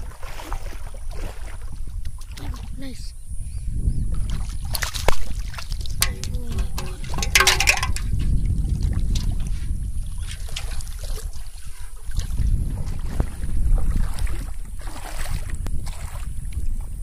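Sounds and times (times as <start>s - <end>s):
water sloshing and splashing: 0.0s - 3.1s, 4.1s - 17.0s
wind rumbling on microphone: 0.0s - 17.0s.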